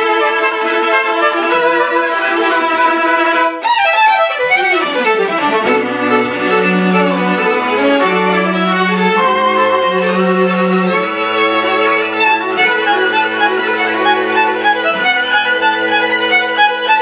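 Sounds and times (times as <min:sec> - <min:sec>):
low cello notes: 0:00.0 - 0:17.0.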